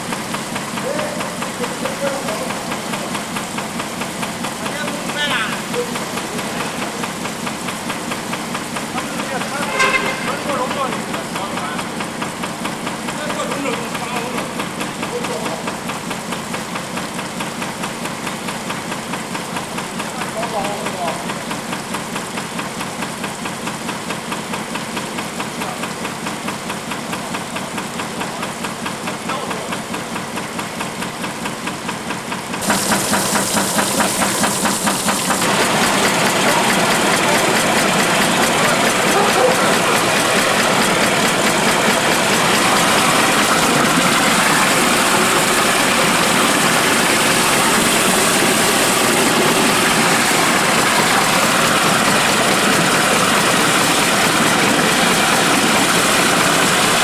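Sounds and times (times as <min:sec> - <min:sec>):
rhythmic machine knocking: 0:00.0 - 0:57.0
steady machine running: 0:00.0 - 0:57.0.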